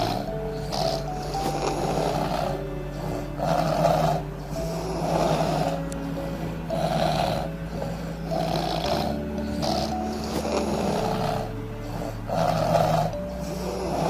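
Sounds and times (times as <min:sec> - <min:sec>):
people snoring: 0:00.0 - 0:14.0.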